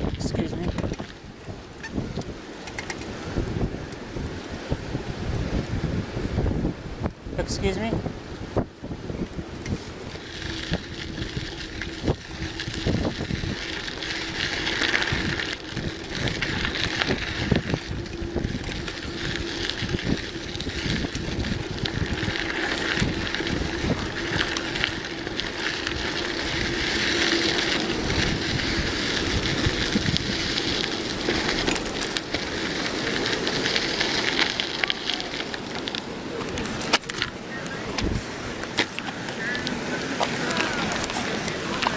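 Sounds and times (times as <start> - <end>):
steady rolling noise: 0.0 - 41.9
wind buffeting microphone: 0.0 - 41.9.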